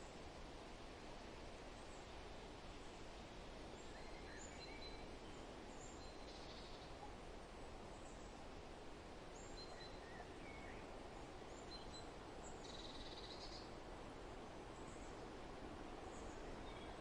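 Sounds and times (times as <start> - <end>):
wind through leaves: 0.0 - 17.0.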